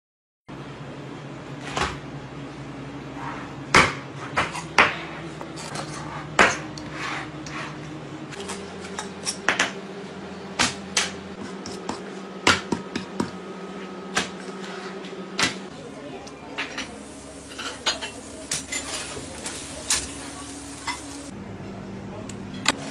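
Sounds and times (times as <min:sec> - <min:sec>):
steady low hum: 0:00.5 - 0:22.9.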